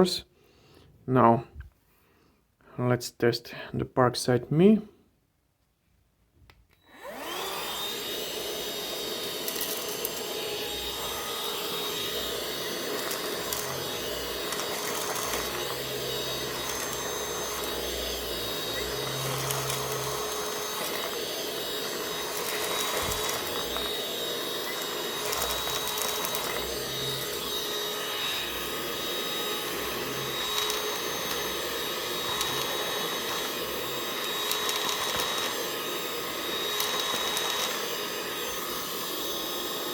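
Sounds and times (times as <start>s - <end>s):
handheld vacuum cleaner whine: 6.7s - 39.9s.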